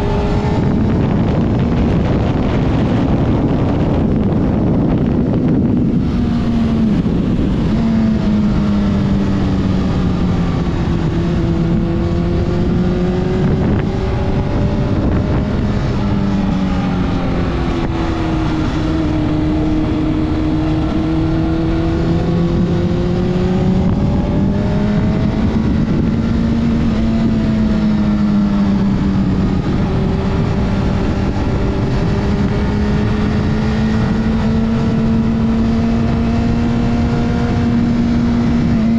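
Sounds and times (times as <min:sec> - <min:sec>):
motorcycle engine: 0:00.0 - 0:38.9
wind noise on microphone: 0:00.0 - 0:38.9.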